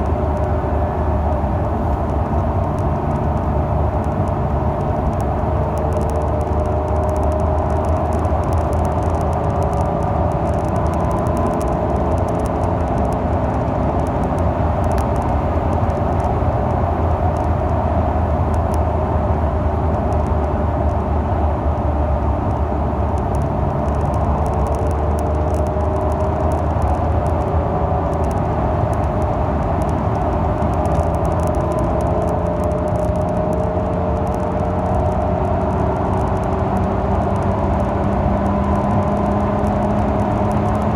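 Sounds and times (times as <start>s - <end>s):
microphone crackling clicks: 0.0s - 19.0s, 21.7s - 40.9s
car engine running: 0.0s - 40.9s.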